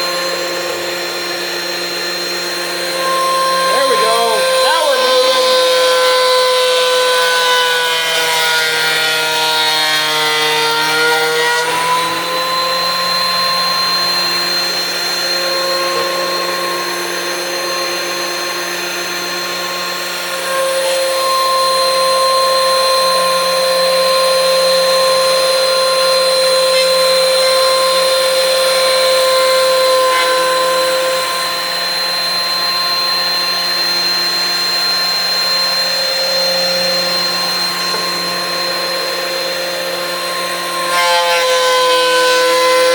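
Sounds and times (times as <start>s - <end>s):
thickness planer motor whine: 0.0s - 42.9s.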